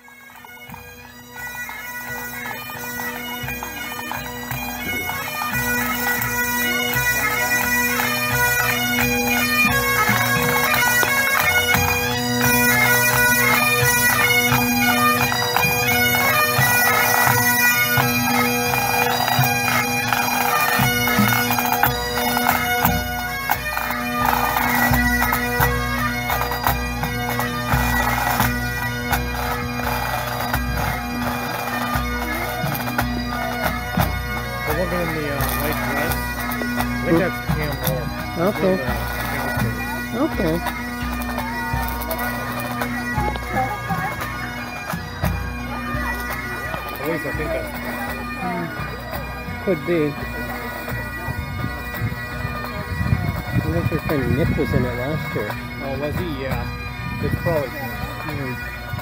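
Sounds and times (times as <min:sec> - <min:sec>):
bagpipes playing over drone: 0:00.0 - 0:59.0.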